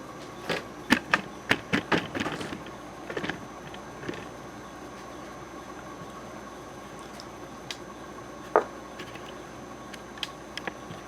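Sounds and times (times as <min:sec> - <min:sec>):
ceiling fan running: 0:00.0 - 0:11.0.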